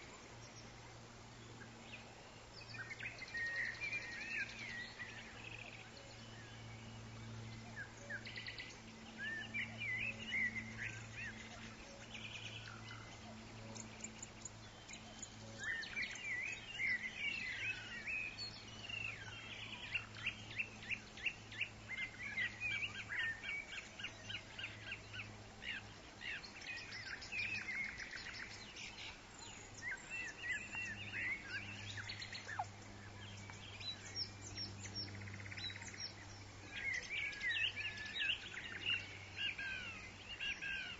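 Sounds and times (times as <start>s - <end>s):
birds chirping and trilling: 0.0s - 40.9s
faint background hiss: 0.0s - 40.9s
steady low hum: 0.0s - 40.9s.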